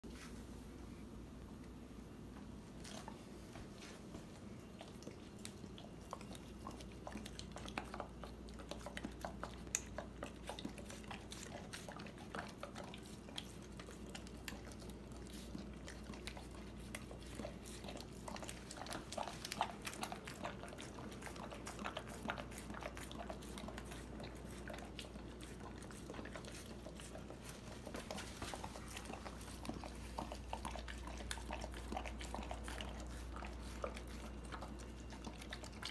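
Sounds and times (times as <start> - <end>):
dog crunching watermelon: 4.5 - 35.9.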